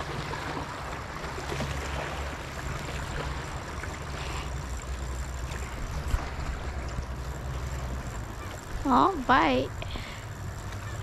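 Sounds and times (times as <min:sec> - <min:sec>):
water wash: 0:00.0 - 0:11.0.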